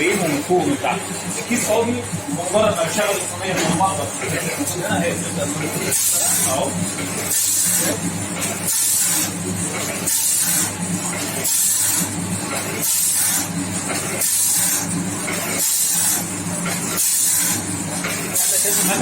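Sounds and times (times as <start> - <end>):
packing machine motor hum: 0.0 - 19.0.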